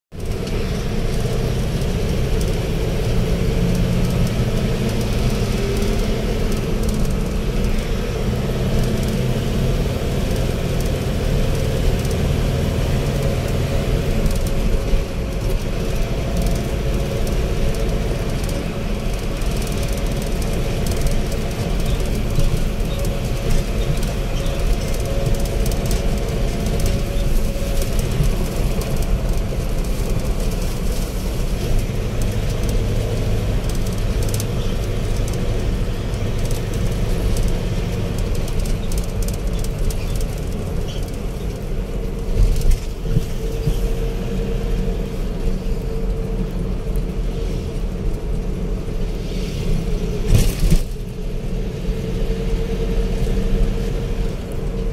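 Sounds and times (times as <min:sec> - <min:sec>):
engine hum: 0:00.1 - 0:54.9
tyre noise on paved road: 0:00.1 - 0:54.9.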